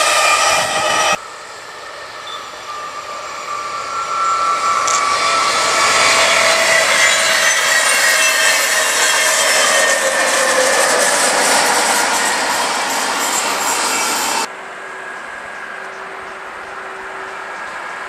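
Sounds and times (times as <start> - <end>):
high ringing wheel tones: 0.0 - 18.0
train wheels rushing on rail: 0.0 - 18.0.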